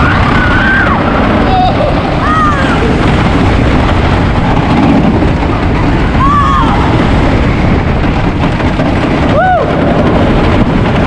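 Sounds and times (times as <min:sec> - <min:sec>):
wind rushing on microphone: 0:00.0 - 0:11.0
wooden roller coaster rumble: 0:00.0 - 0:11.0.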